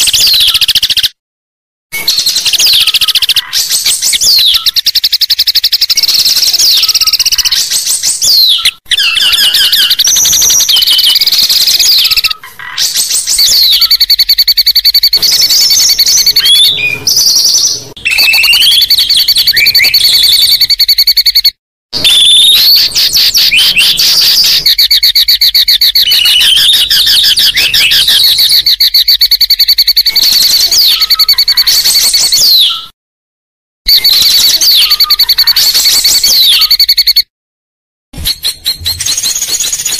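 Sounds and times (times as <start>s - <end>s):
songbird trilling and whistling: 0.0s - 1.2s, 2.0s - 32.9s, 33.9s - 37.3s, 38.2s - 39.9s.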